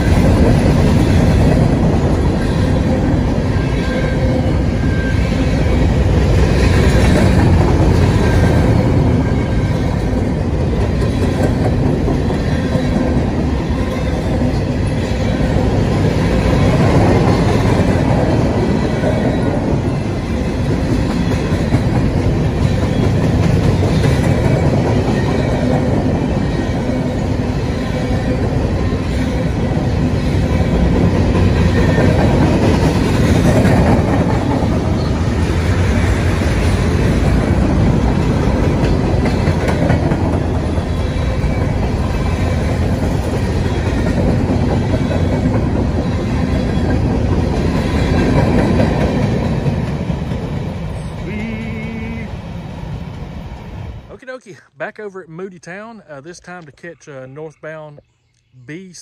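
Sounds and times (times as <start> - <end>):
freight cars rumbling on rail: 0.0 - 54.3.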